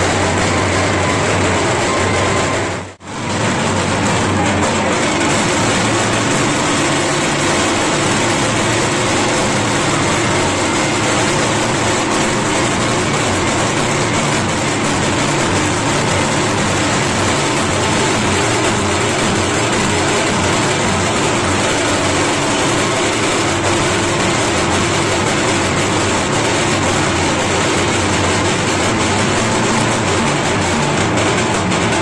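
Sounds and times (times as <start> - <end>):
dense crowd din: 0.0 - 32.0.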